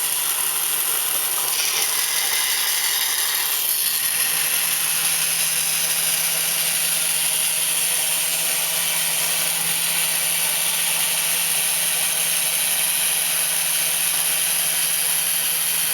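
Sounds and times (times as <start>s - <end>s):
bandsaw motor hum: 0.0s - 15.9s.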